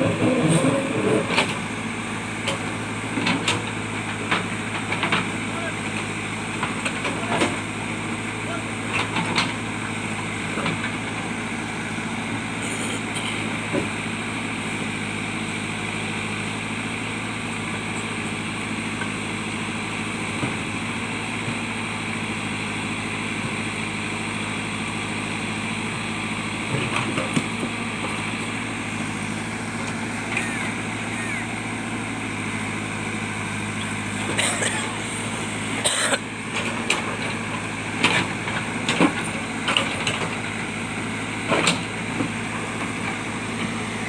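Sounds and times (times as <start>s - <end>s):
diesel engine running steadily: 0.0s - 44.0s.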